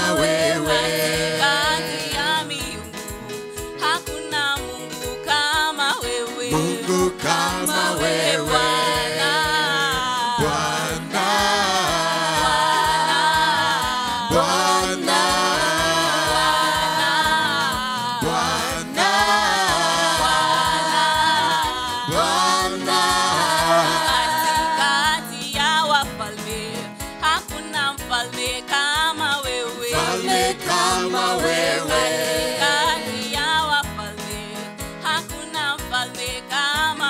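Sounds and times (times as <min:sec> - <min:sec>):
woman singing: 0:00.0 - 0:02.9, 0:03.8 - 0:10.5, 0:12.3 - 0:14.3, 0:16.3 - 0:18.2, 0:20.5 - 0:37.0
instrumental backing: 0:00.0 - 0:37.0.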